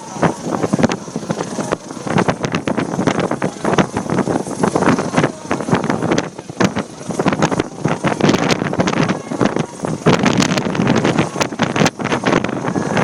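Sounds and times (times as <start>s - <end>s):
helicopter rotor chop and engine: 0.0s - 13.0s
rotor wash buffeting microphone: 0.0s - 13.0s.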